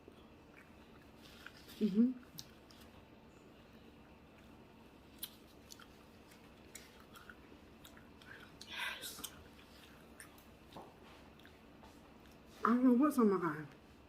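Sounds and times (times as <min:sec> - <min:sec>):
quiet chewing: 0:00.2 - 0:12.6.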